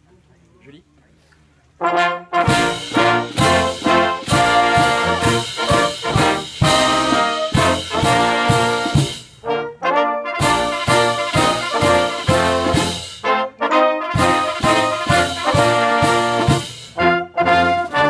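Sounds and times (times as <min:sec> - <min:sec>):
brass band playing chords: 0:01.8 - 0:18.0.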